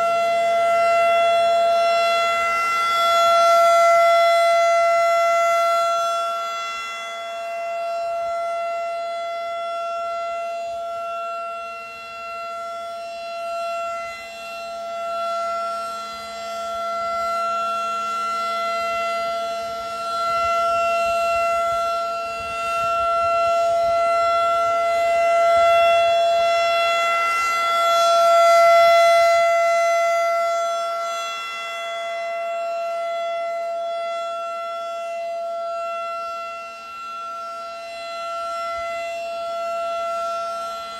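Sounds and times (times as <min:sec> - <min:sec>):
warning siren steady pitch: 0:00.0 - 0:40.9.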